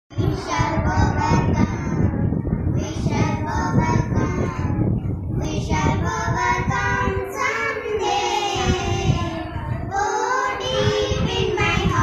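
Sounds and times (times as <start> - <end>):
girls singing unaccompanied: 0.1 - 12.0.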